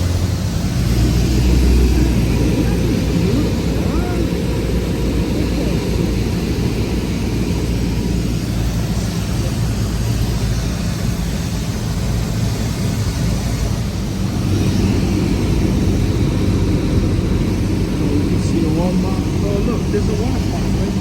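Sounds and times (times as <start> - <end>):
propeller engine droning: 0.0 - 21.0.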